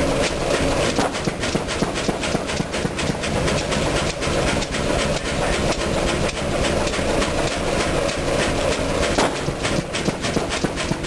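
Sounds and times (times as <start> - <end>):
diesel engine knocking rhythmically: 0.0 - 11.0.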